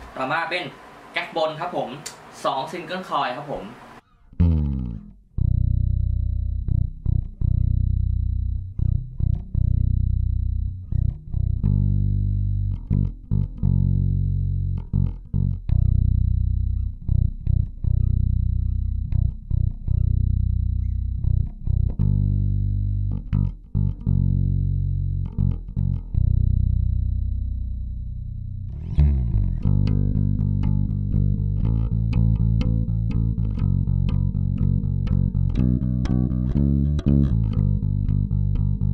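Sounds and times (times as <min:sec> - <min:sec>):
electric bass low notes: 0:04.0 - 0:38.9.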